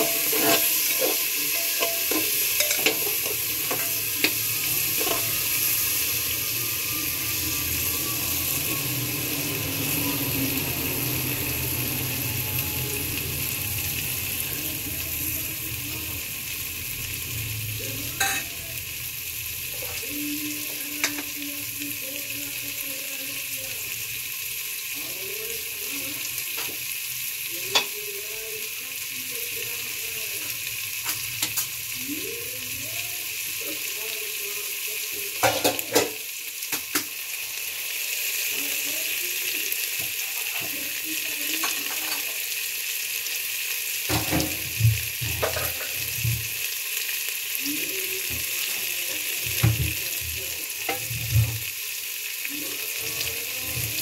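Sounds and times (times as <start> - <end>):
food frying in hot oil: 0.0 - 54.0.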